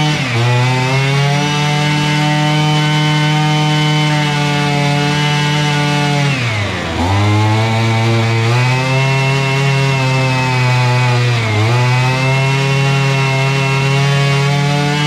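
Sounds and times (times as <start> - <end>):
brush cutter engine at high revs: 0.0 - 15.0.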